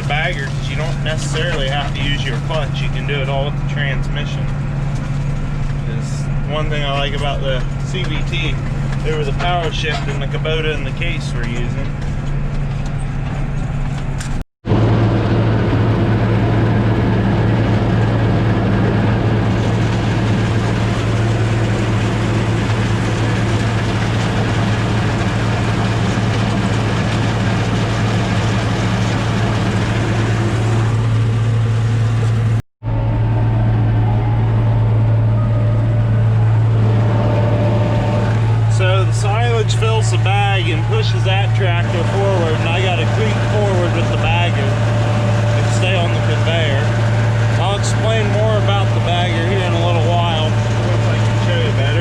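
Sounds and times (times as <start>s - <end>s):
tractor engine humming: 0.0s - 52.0s.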